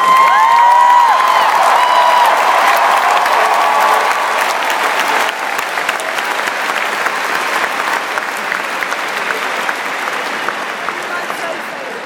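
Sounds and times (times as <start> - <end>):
crowd applauding: 0.0 - 12.0
crowd cheering: 0.0 - 12.0.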